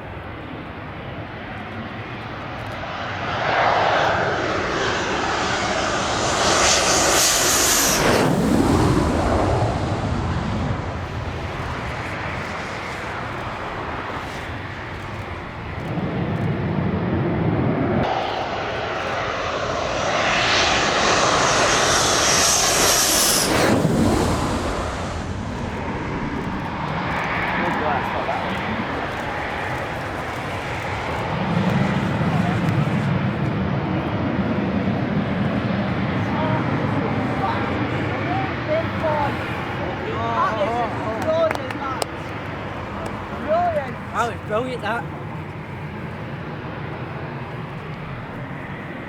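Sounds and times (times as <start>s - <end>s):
jets passing low: 0.0s - 49.0s.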